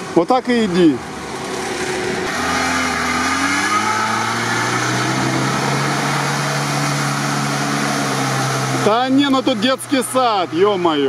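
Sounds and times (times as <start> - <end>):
car engine pulling hard: 0.0 - 11.0.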